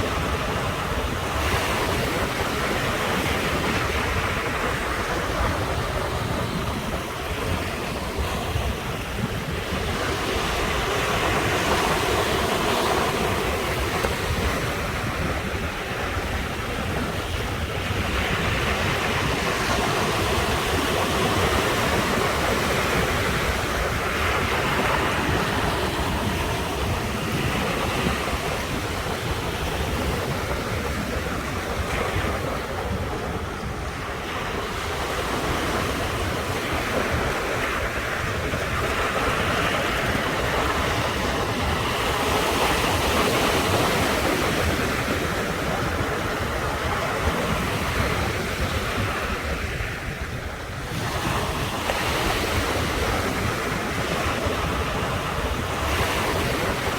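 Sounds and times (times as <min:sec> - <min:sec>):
ocean surf breaking on shore: 0:00.0 - 0:56.9.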